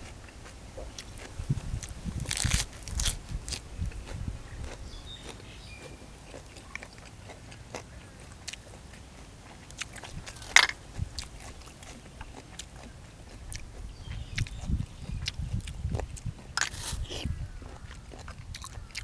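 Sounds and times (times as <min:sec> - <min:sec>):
food crunching: 0:00.0 - 0:19.0
person chewing food: 0:00.0 - 0:19.0.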